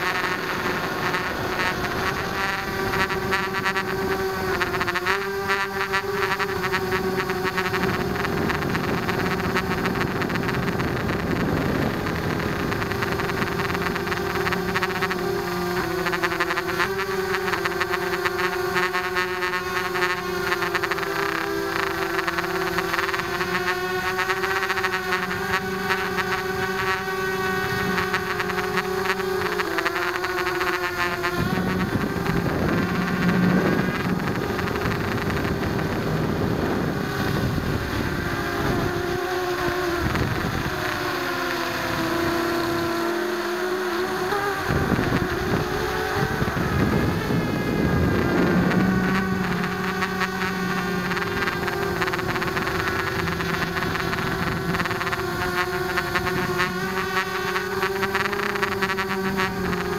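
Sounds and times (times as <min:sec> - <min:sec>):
quadcopter motors whining: 0:00.0 - 0:59.9
rushing and buzzing: 0:00.0 - 0:59.9.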